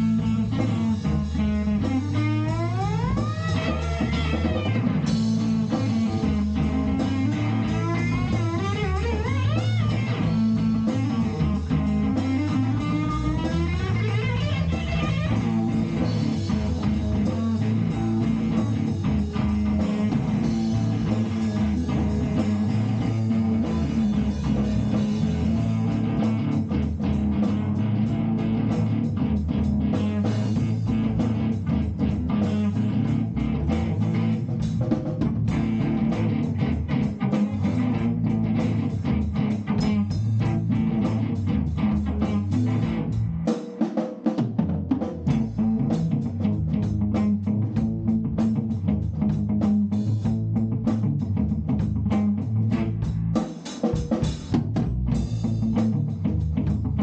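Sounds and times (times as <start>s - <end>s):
bass line: 0.0s - 43.6s, 44.6s - 57.0s
drums: 0.0s - 57.0s
electric guitar: 0.0s - 57.0s.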